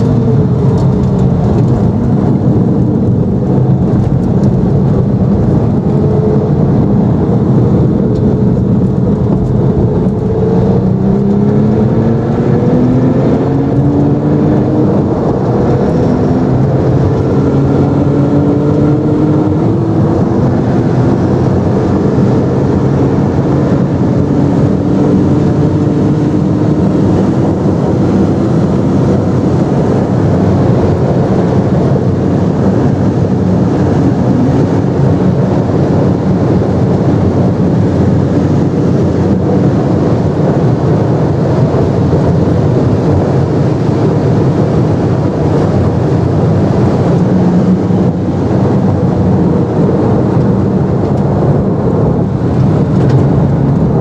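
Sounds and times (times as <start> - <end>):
loud engine drone: 0.0 - 54.0
wind and road noise: 0.0 - 54.0.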